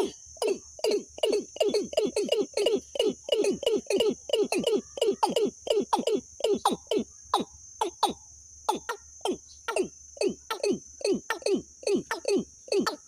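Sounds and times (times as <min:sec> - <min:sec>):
bird calling: 0:00.0 - 0:13.0
high insect drone: 0:00.0 - 0:13.0.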